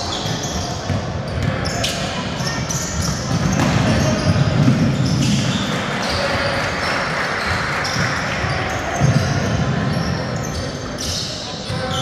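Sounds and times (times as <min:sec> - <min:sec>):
crowd chatter: 0:00.0 - 0:12.0
basketball bouncing on court: 0:00.1 - 0:06.8, 0:07.4 - 0:11.9.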